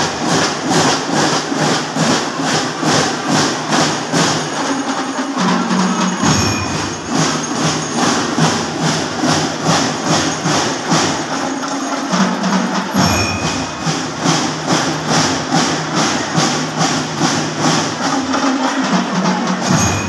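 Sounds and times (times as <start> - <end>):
marching drums beating: 0.0 - 20.0.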